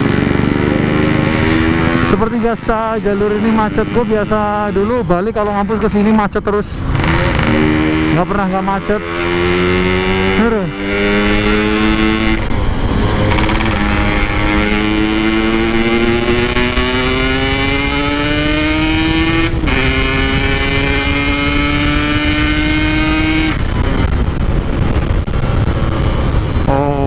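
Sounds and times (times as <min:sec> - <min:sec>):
two-stroke motorcycle accelerating: 0:00.0 - 0:27.0
wind noise: 0:00.0 - 0:27.0.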